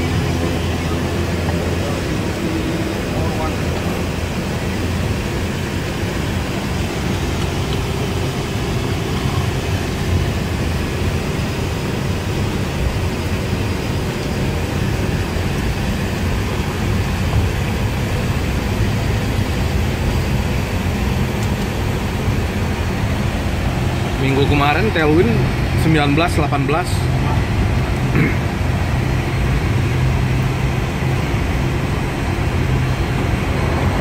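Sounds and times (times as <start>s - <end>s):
turboprop engines rumbling: 0.0s - 34.0s.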